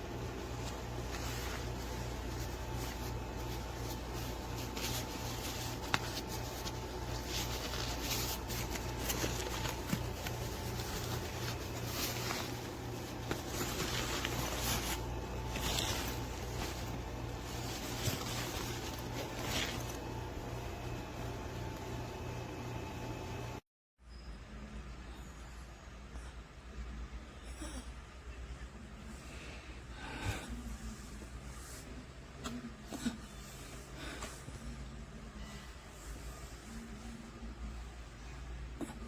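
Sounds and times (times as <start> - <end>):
rustling and handling noises: 0.0 - 23.5, 29.0 - 39.0.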